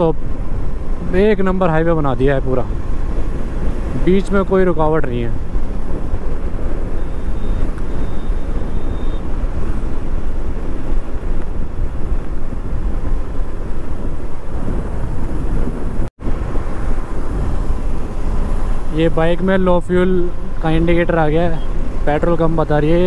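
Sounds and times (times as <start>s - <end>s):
motorcycle engine and tyre noise: 0.0s - 23.0s
wind rushing over microphone: 0.0s - 23.0s.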